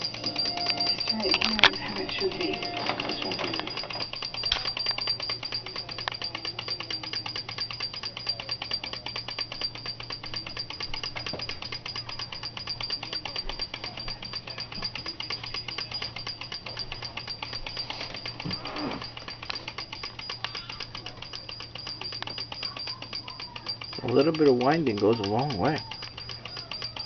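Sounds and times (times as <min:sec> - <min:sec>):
clockwork toy clattering: 0:00.0 - 0:27.0
small bell struck rapidly: 0:00.0 - 0:27.0.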